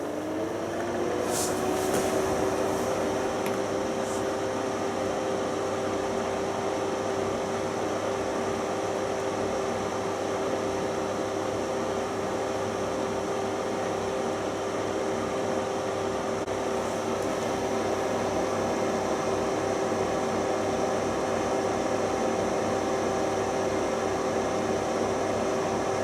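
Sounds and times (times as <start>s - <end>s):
fan heater blowing air: 0.0s - 26.0s
motor hum and whine: 0.0s - 26.0s.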